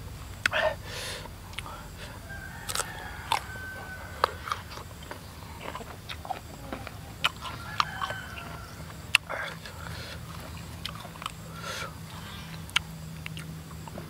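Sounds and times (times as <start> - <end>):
crunchy biting and chewing: 0.3 - 14.0.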